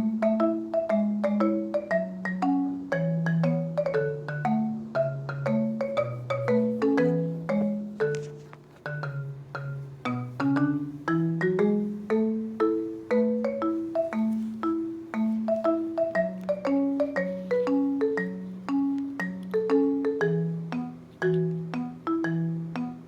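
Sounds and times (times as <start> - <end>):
light background music tune: 0.0 - 23.0.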